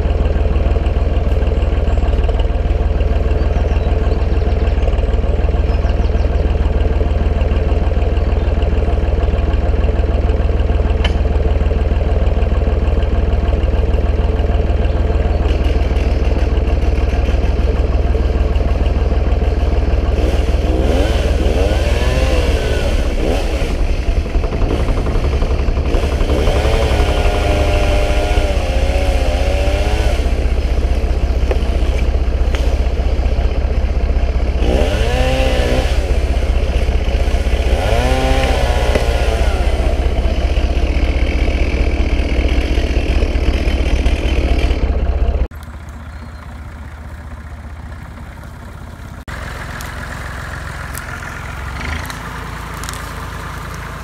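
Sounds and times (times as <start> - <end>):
tractor engine idling: 0.0 - 54.0.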